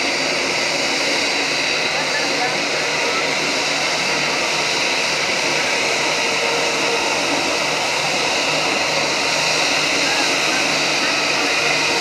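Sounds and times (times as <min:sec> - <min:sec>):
jet engines whining at low power: 0:00.0 - 0:12.0.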